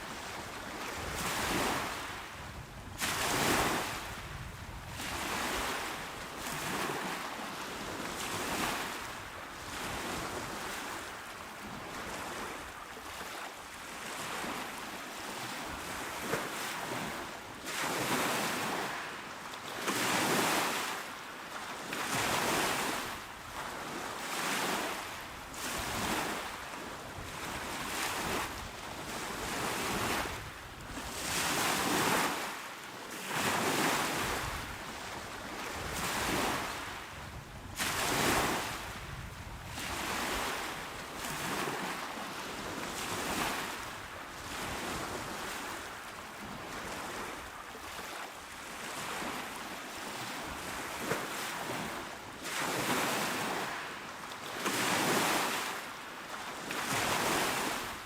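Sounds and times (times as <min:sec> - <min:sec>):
small sea waves washing ashore: 0:00.0 - 0:58.0.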